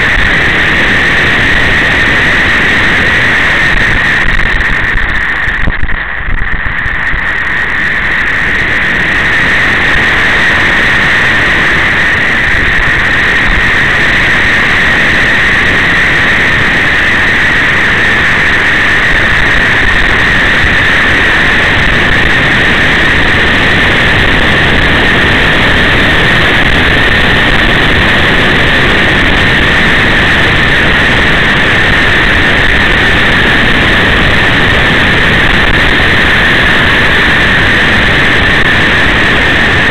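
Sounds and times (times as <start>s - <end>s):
wind and engine noise: 0.0s - 39.9s.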